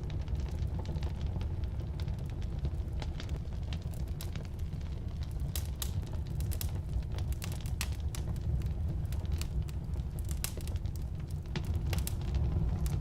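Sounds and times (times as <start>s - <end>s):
firewood crackling in fireplace: 0.0s - 13.0s.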